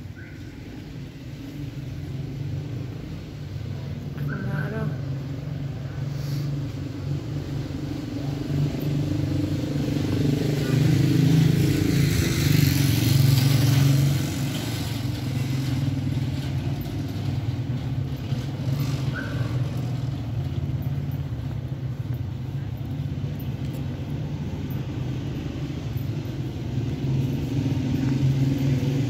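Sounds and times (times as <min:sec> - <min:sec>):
road traffic engine hum: 0:00.0 - 0:29.0
vehicle passing: 0:00.9 - 0:29.0.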